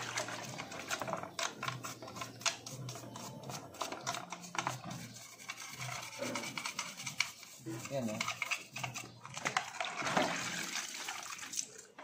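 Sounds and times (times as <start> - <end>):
scrubbing plastic by hand: 0.0 - 11.7.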